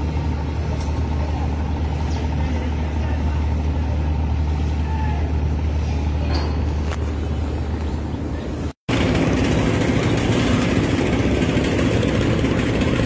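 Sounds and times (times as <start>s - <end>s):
engine rumble: 0.0s - 13.0s.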